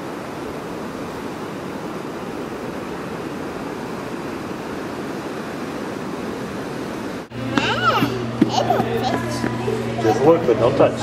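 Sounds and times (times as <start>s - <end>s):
ocean surf washing ashore: 0.0s - 11.0s.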